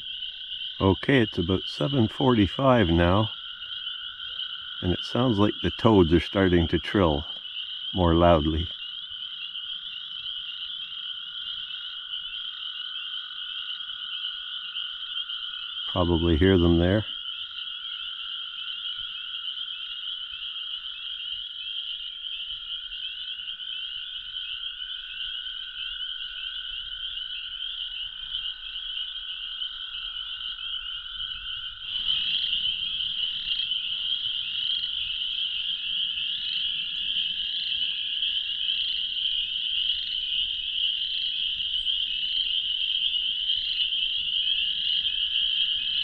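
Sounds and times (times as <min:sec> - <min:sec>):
high peeping of frogs: 0:00.0 - 0:46.0
toads trilling: 0:00.0 - 0:46.0.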